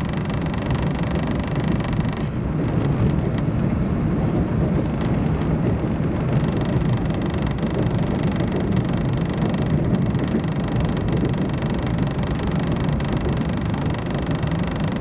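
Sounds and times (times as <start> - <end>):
train running gear rumble: 0.0 - 15.0.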